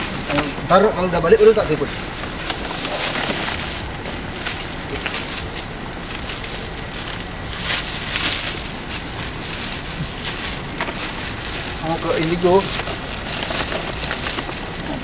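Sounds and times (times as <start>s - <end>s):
shopping bags rustling: 0.0s - 15.0s.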